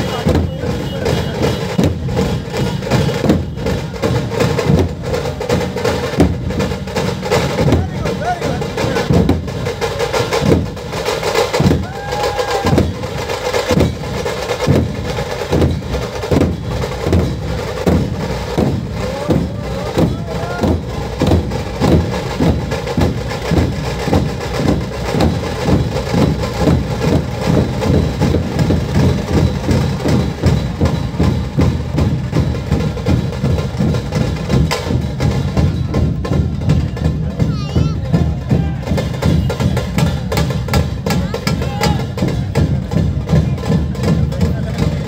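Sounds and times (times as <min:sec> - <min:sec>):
barrel drums beaten with sticks: 0:00.0 - 0:45.0.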